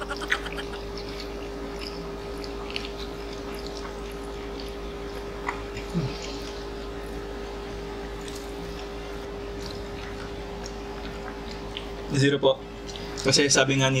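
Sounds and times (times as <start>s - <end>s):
chewing food: 0.0s - 13.5s.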